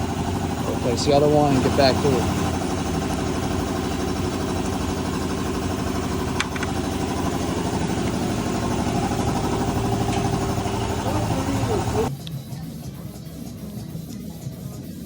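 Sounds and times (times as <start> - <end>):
engine idling: 0.0 - 12.1.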